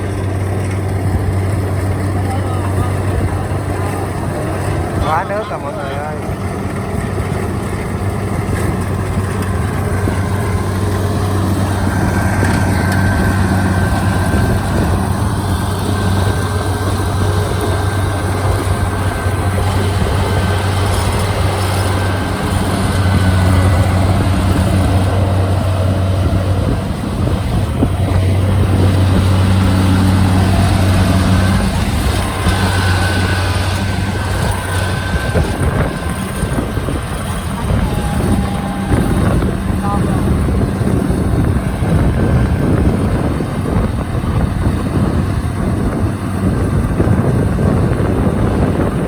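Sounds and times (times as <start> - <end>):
combine harvester engine running: 0.0 - 49.0.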